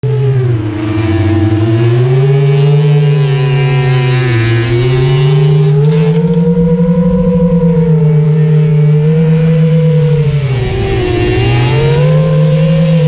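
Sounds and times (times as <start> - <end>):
racing engine revving: 0.0 - 13.0.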